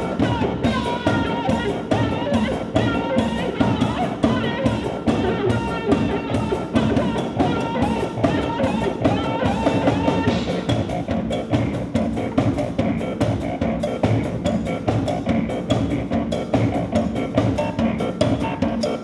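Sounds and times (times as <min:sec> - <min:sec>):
fast percussive electronic beat: 0:00.0 - 0:19.0.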